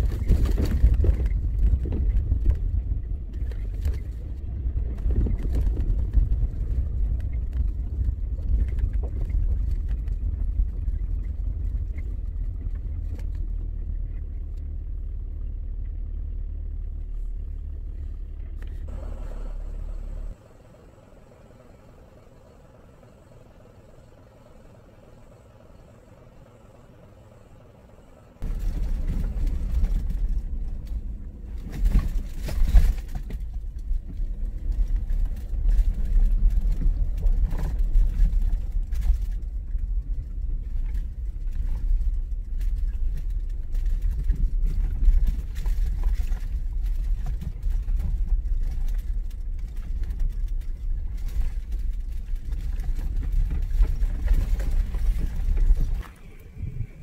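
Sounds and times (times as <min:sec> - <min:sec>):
car rumbling on dirt road: 0:00.0 - 0:57.0
faint background hum: 0:00.0 - 0:57.0.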